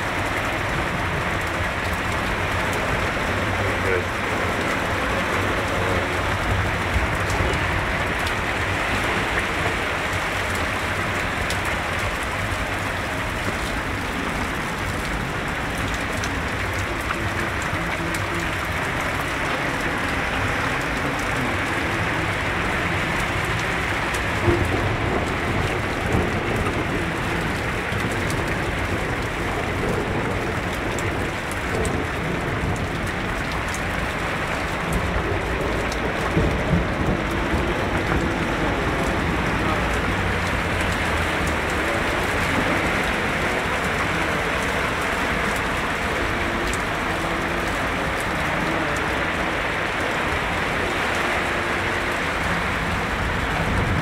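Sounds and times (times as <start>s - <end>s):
cars splashing through water: 0.0s - 54.0s
heavy rain: 0.0s - 54.0s.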